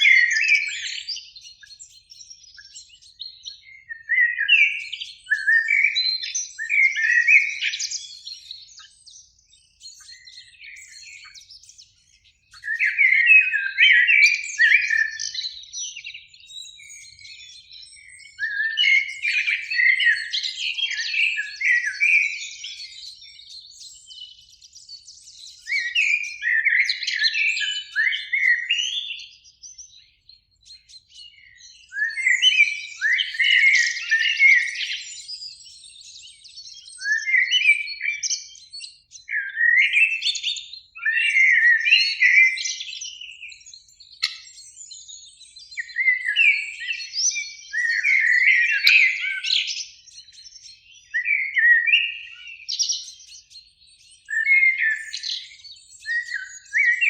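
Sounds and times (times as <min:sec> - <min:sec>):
blackbird singing: 0:00.0 - 0:57.0.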